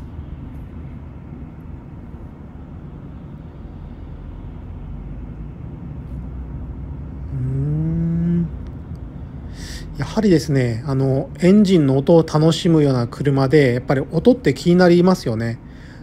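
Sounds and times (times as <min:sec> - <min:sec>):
pitched hum: 0:00.0 - 0:15.0
car engine and road rumble: 0:00.0 - 0:16.0.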